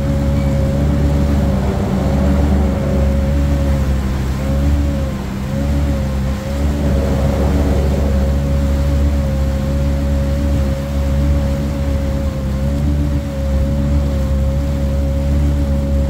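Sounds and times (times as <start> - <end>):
watercraft engine humming and whining: 0.0 - 16.0.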